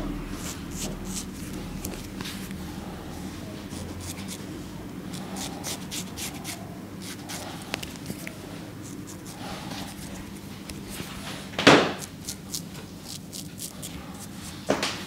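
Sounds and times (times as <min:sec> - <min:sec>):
razor scraping stubble: 0:00.4 - 0:02.6, 0:03.7 - 0:04.5, 0:05.1 - 0:14.8.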